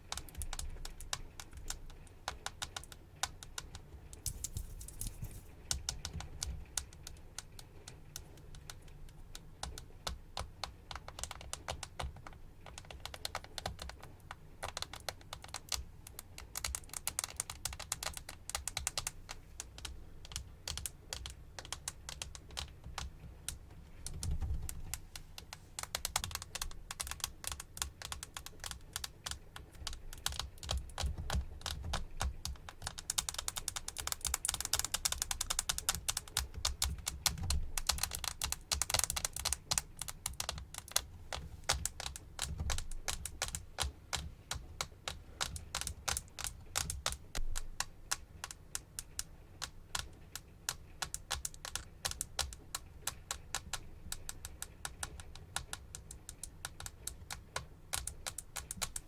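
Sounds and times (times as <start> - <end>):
rapid tapping clicks: 0.0 - 59.0.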